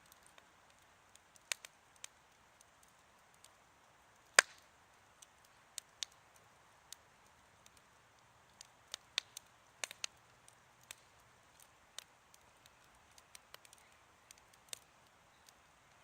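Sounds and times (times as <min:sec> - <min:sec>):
campfire crackling: 0:00.0 - 0:16.0
faint hiss: 0:00.0 - 0:16.0.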